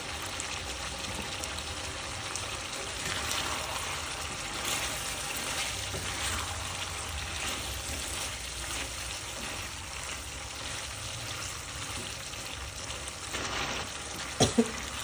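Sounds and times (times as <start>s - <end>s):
food simmering hiss: 0.0s - 15.0s
spatula stirring in a pan: 0.8s - 15.0s.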